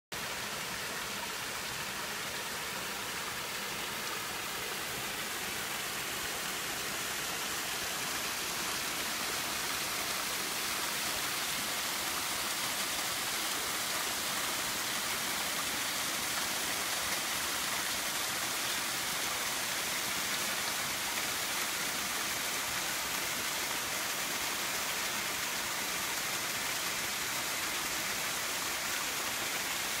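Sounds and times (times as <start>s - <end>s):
waterfall rushing over rocks: 0.2s - 30.0s.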